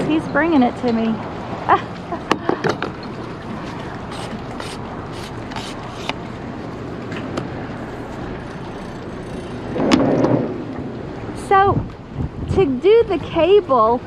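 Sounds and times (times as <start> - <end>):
boat engines idling: 0.0 - 14.0
wind: 0.0 - 14.0.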